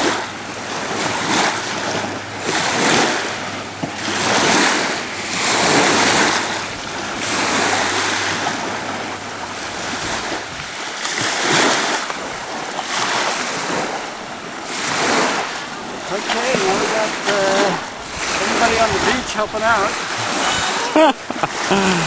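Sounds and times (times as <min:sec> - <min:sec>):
wind buffeting microphone: 0:00.0 - 0:21.6
waves washing onto beach: 0:00.0 - 0:22.0.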